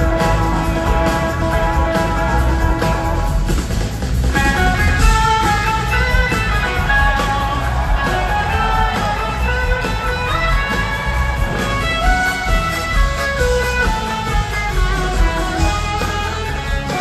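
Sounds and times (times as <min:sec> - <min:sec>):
electric guitar melody: 0:00.0 - 0:03.5, 0:04.3 - 0:17.0
bass guitar: 0:00.0 - 0:17.0
steady drum groove: 0:00.0 - 0:17.0.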